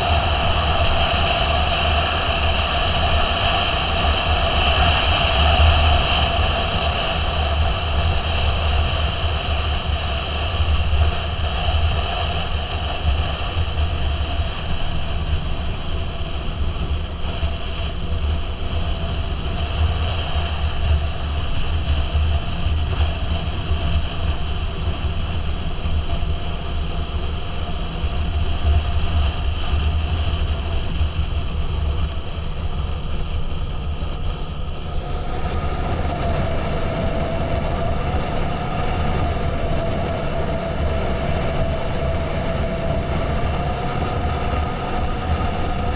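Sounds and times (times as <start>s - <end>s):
motorcycle engine rumble: 0.0s - 45.9s
wind and road noise: 0.0s - 45.9s.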